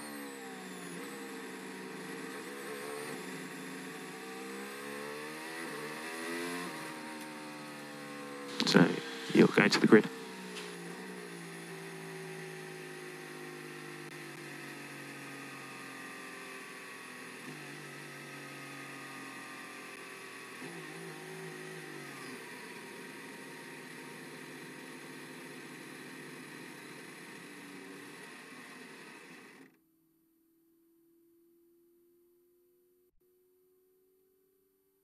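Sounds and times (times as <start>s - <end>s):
race car engine low revs: 0.0s - 29.7s.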